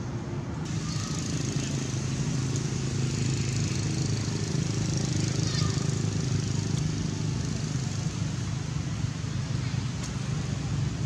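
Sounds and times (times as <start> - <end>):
engine humming: 0.0 - 11.0
outdoor background hiss: 0.0 - 11.0.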